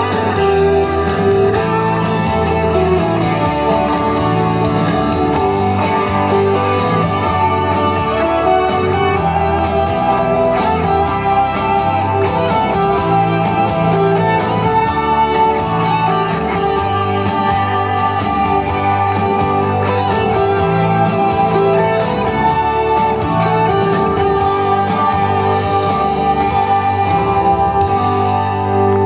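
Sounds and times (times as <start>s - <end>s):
guitar: 0.0s - 29.0s
pop song over a pa: 0.0s - 29.0s.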